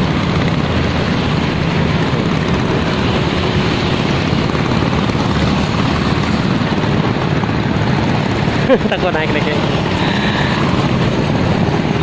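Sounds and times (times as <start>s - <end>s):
road traffic drone: 0.0s - 12.0s
wind buffeting microphone: 0.0s - 12.0s.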